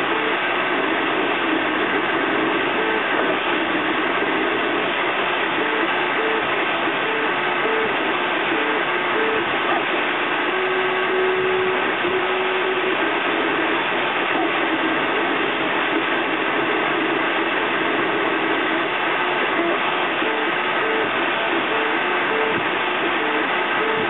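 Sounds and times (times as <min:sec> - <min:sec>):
cooling fan hiss: 0:00.0 - 0:24.0.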